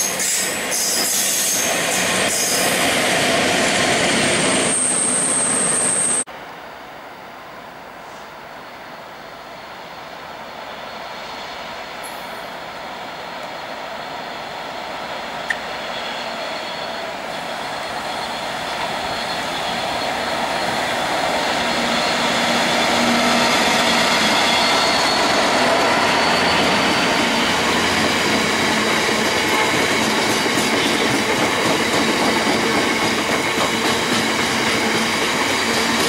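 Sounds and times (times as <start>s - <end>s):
diesel locomotive passing: 0.0s - 6.3s, 8.1s - 36.0s.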